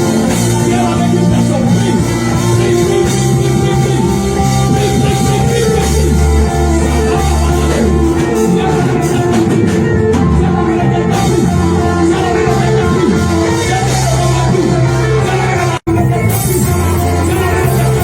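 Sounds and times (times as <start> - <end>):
bass guitar: 0.0 - 18.0
drum kit: 0.0 - 18.0
electric guitar: 0.0 - 18.0
person singing: 0.0 - 18.0.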